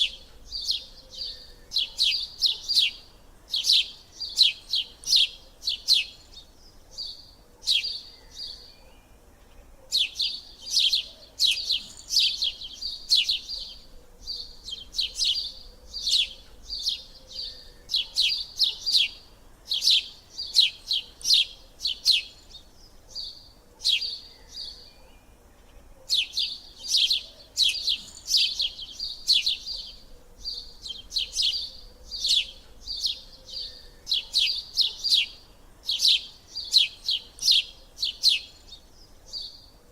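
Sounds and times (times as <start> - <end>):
bird chirping rapidly: 0.0 - 8.7, 9.9 - 24.8, 26.1 - 39.6.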